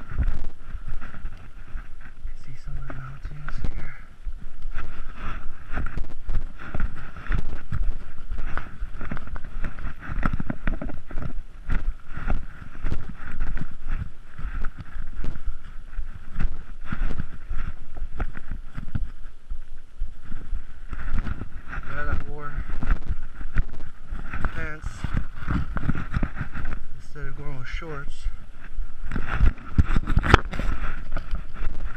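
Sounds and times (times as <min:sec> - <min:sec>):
brush scraping against camera: 0:00.0 - 0:19.4, 0:20.3 - 0:27.1, 0:28.1 - 0:31.9
footsteps: 0:00.0 - 0:31.9
wind buffeting microphone: 0:00.0 - 0:31.9.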